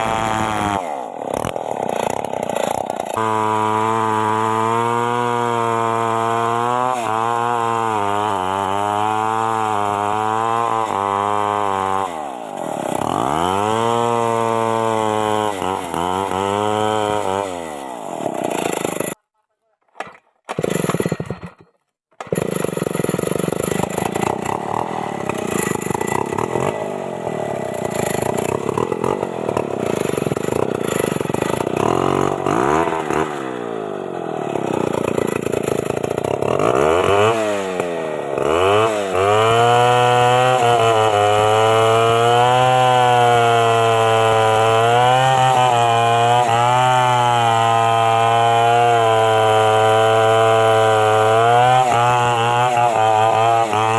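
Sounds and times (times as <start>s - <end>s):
chainsaw running and revving: 0.0s - 19.2s, 20.5s - 53.9s.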